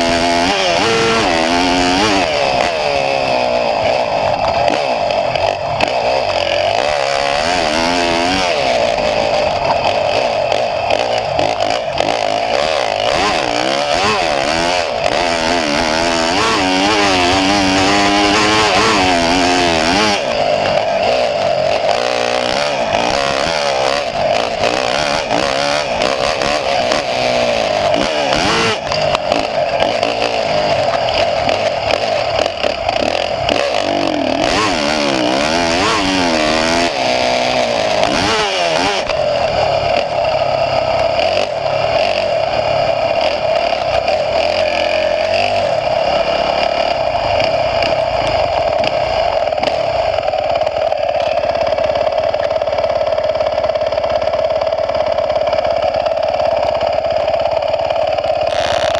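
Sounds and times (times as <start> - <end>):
small engine revving: 0.0 - 58.9.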